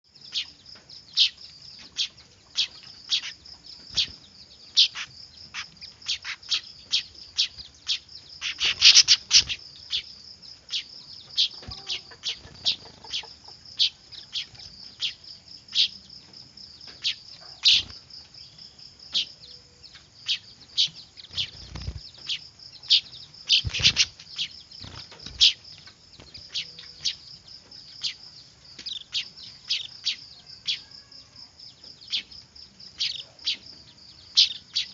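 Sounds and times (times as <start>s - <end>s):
bird chicks chirping: 0.0s - 34.9s.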